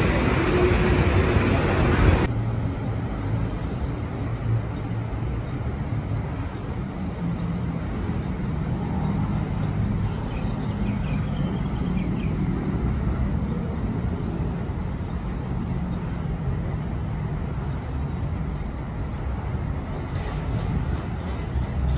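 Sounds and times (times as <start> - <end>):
elevated train running: 0.0 - 21.9
road traffic rumble: 0.0 - 21.9.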